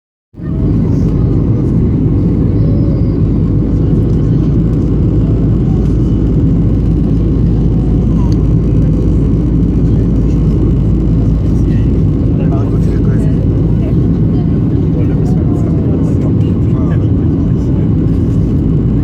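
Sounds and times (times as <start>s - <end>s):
airliner low rumble: 0.3s - 19.0s.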